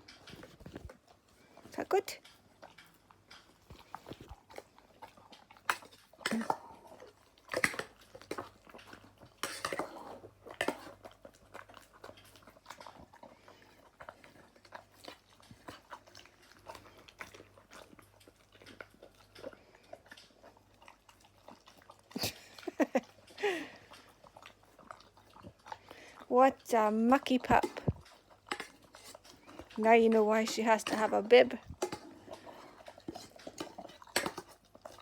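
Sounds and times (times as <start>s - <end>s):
dog chewing and crunching: 0.0s - 35.0s.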